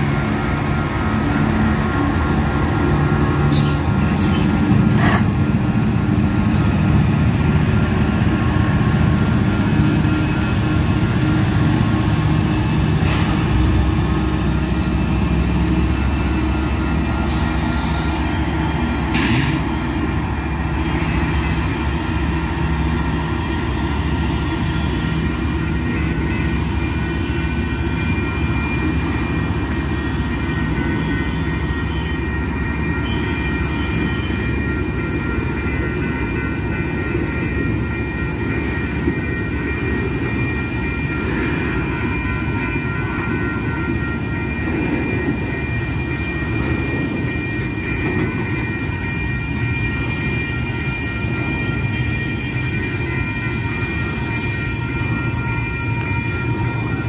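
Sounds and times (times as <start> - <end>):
freight train rumbling past: 0.0 - 57.0
train cars clanking: 0.0 - 57.0.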